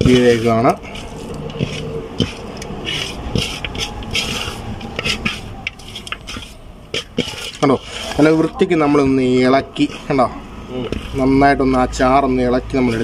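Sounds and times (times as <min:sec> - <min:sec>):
rice scraping in metal pan: 0:00.0 - 0:13.0.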